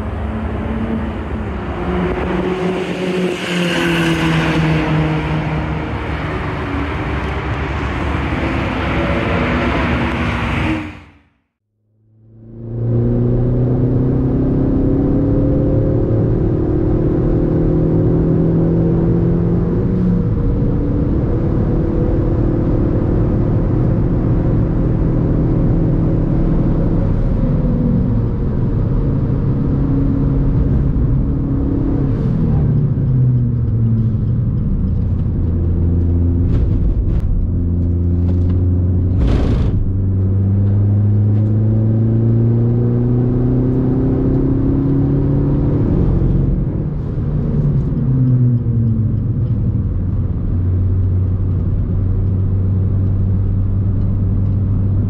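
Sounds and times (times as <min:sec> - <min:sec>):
car engine accelerating: 0:00.0 - 0:11.2, 0:12.0 - 0:55.0.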